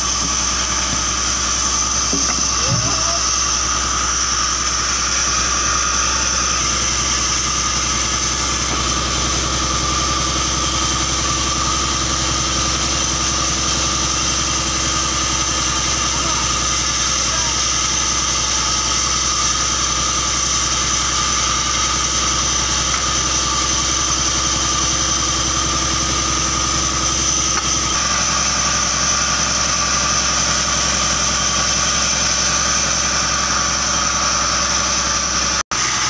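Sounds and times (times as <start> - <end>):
engine idling: 0.0 - 36.0.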